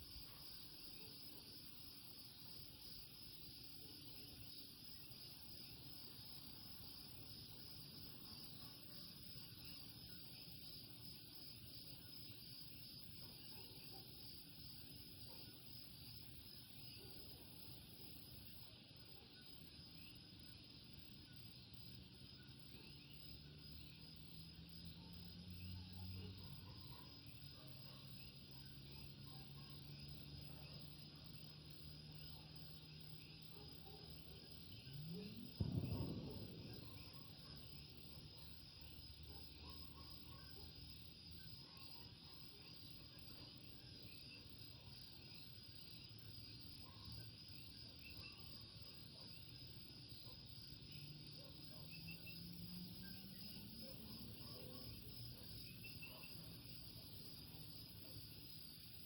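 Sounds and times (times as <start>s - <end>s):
insect-like drone: 0.0s - 59.0s.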